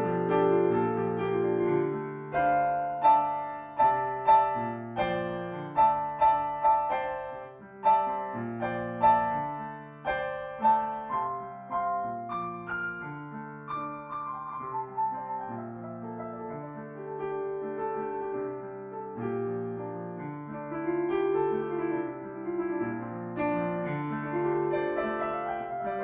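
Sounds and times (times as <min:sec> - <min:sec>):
slow bluesy solo piano: 0:00.0 - 0:26.0.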